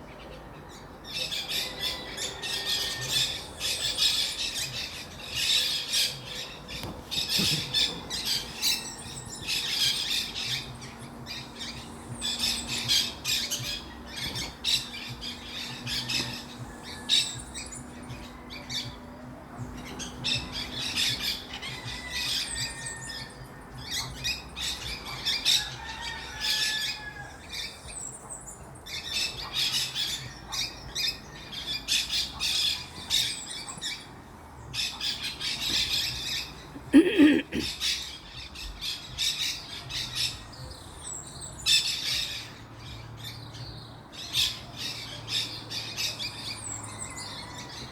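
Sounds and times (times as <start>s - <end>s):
flock of birds chattering: 0.0s - 47.9s.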